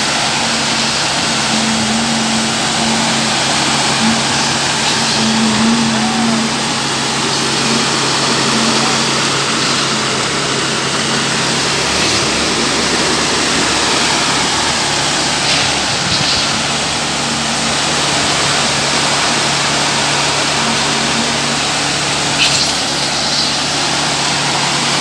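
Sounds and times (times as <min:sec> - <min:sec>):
concrete mixer truck engine running: 0:00.0 - 0:25.0.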